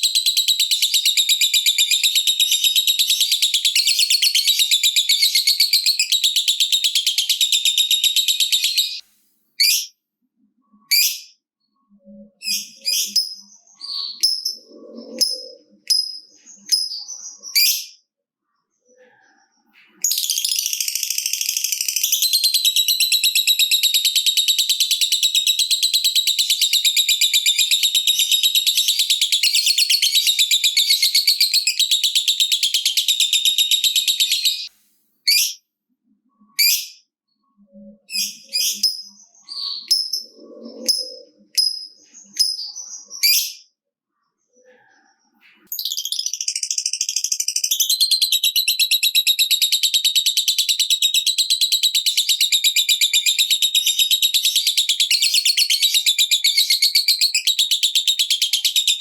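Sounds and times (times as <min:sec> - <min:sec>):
lovebird chirping and trilling: 0:00.0 - 0:09.0, 0:09.6 - 0:09.9, 0:10.6 - 0:18.0, 0:18.9 - 0:34.7, 0:35.3 - 0:35.6, 0:36.3 - 0:43.7, 0:44.6 - 0:59.0.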